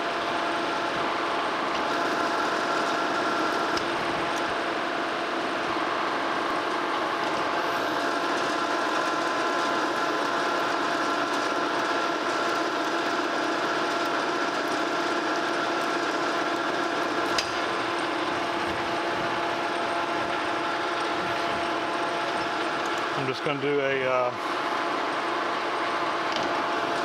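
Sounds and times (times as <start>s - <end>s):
metal lathe whirring: 0.0s - 27.0s.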